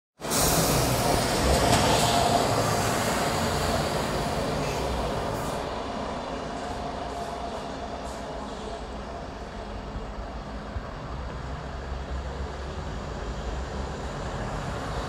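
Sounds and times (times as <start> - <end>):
passenger train passing: 0.2 - 15.0.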